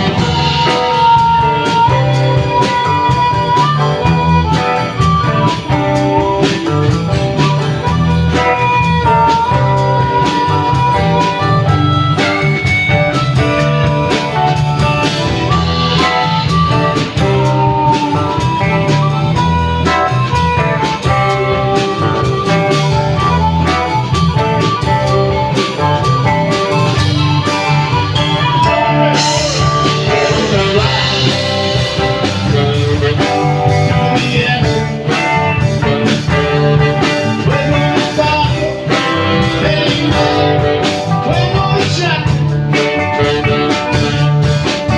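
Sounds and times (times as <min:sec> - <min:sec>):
live blues band playing: 0:00.0 - 0:44.9.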